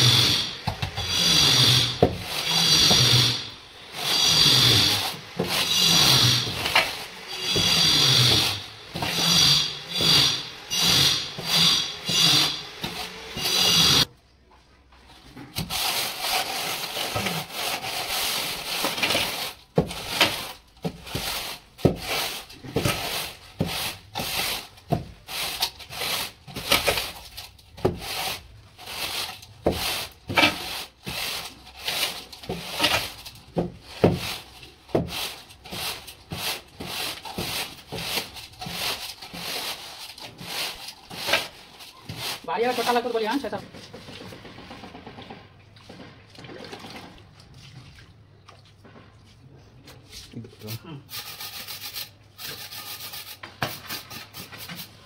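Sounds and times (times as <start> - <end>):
straightedge scraping wet mortar: 0.0 - 14.1, 15.2 - 44.2, 49.2 - 55.0.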